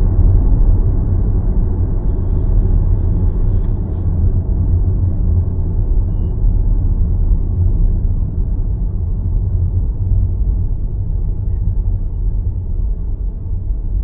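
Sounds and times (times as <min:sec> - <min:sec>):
car road and tyre noise: 0:00.0 - 0:14.0.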